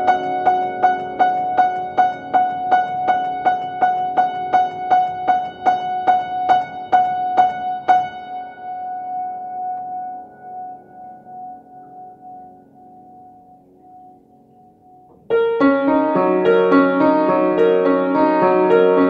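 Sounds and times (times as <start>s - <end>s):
upright piano playing: 0.0s - 19.0s.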